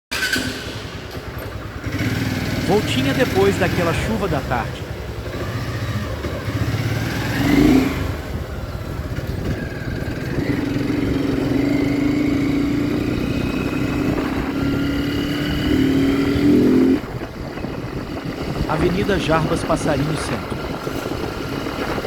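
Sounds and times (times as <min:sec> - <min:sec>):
motorcycle engine revving: 0:00.1 - 0:22.0
road and wind noise: 0:00.1 - 0:22.0.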